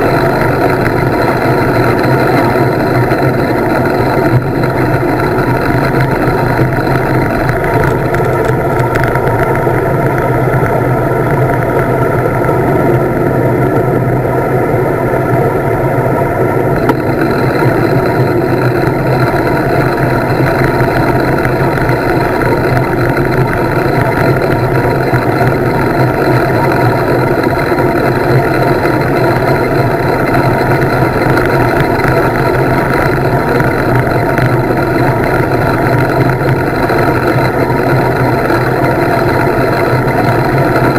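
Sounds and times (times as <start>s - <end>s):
wind roaring over microphone: 0.0s - 40.9s.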